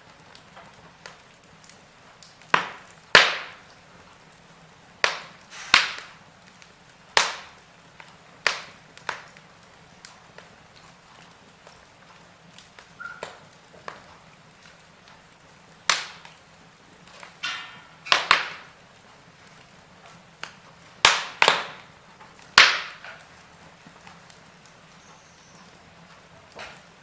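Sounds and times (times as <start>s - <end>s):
quiet steady hiss: 0.0s - 27.0s
wood fire crackling: 0.0s - 27.0s.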